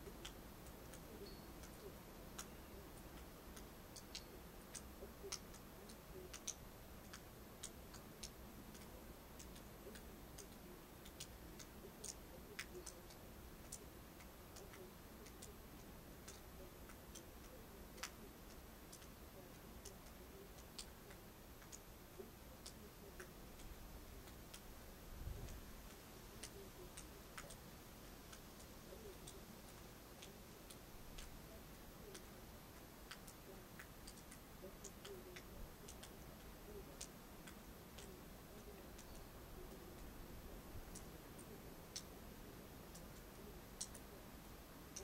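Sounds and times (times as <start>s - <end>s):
small sharp ticks: 0.0s - 45.0s.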